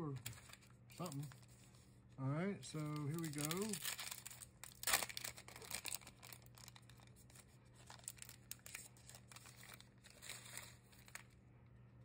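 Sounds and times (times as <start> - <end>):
wrapper crinkling and rustling: 0.1 - 1.8, 2.8 - 11.4.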